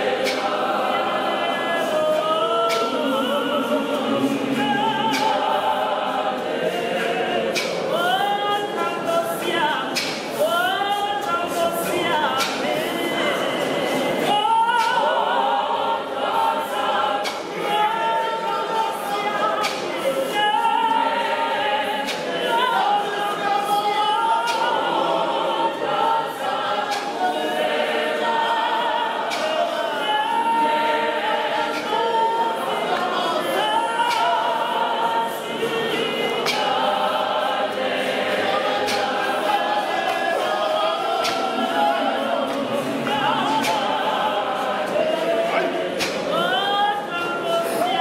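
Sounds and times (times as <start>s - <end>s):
choir singing unaccompanied: 0.0s - 48.0s.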